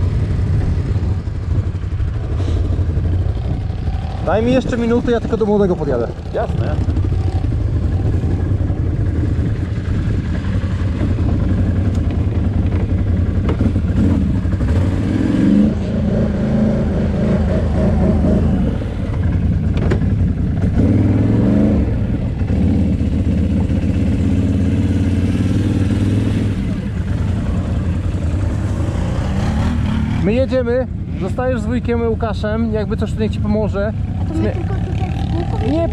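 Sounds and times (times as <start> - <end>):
quad engine running: 0.0 - 35.9.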